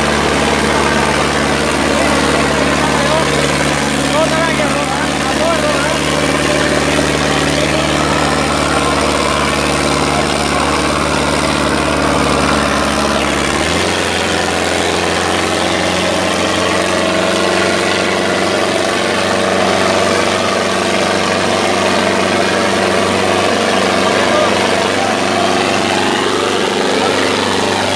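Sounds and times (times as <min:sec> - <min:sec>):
tractor diesel engine running hard: 0:00.0 - 0:27.9.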